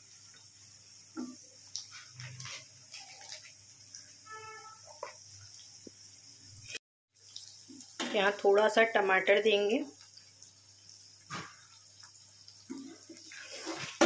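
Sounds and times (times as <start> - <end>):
peas sizzling in a pan: 0.0 - 14.0.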